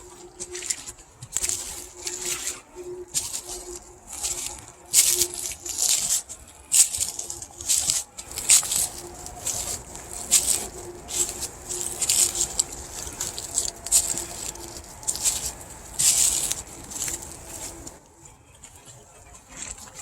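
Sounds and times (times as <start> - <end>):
faint steady hum: 0.0 - 20.0
footsteps crunching on dry trail: 0.0 - 20.0.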